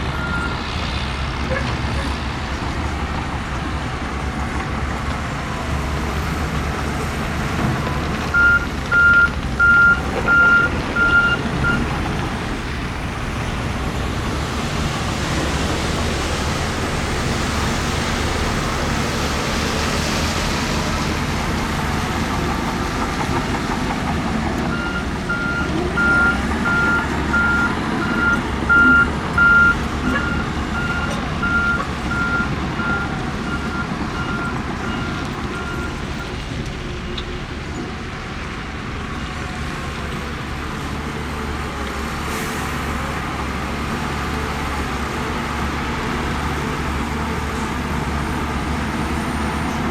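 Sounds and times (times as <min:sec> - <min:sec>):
diesel machinery rumbling: 0:00.0 - 0:49.9.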